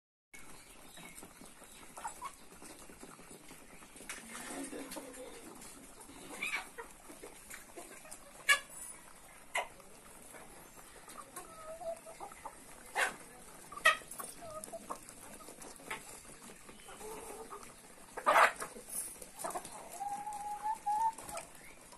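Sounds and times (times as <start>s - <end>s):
chickens clucking softly: 0.4s - 21.9s.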